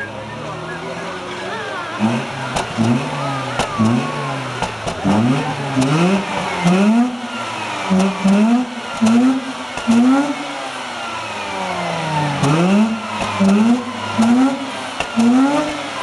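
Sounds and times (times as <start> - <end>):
rotary engine revving: 0.0 - 16.0.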